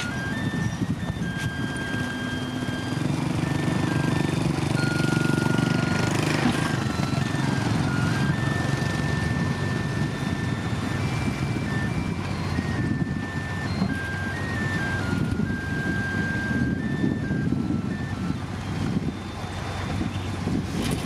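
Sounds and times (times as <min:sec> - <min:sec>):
background music with held notes: 0:00.0 - 0:21.0
diesel engine rumble: 0:00.0 - 0:21.0.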